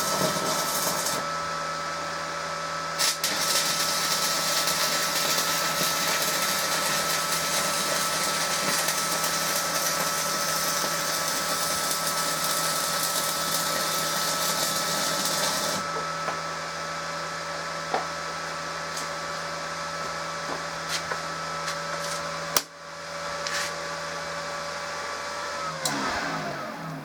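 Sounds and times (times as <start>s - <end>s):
cooling fan hum: 0.0s - 27.0s.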